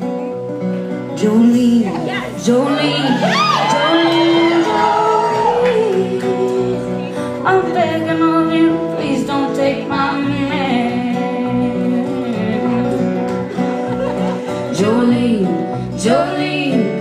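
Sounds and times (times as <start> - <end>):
acoustic guitar: 0.0 - 17.0
woman singing: 1.1 - 13.3, 14.6 - 17.0.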